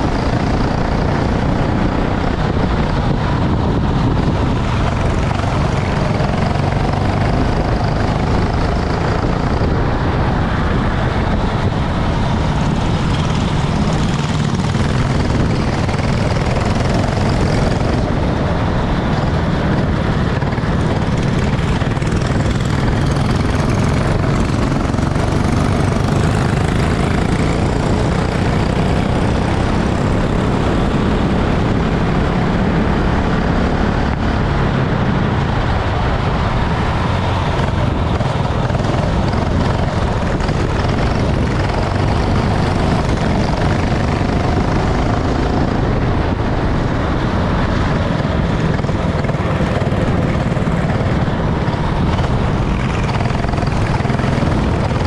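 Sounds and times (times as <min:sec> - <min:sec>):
dense rushing noise: 0:00.0 - 0:55.0
racing kart engine running: 0:00.0 - 0:55.0.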